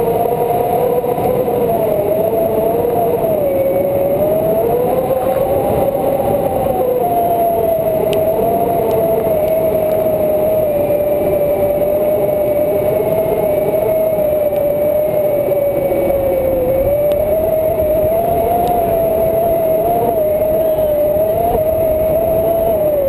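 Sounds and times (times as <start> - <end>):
wavering hum: 0.0 - 23.0
wind rushing over microphone: 0.0 - 23.0.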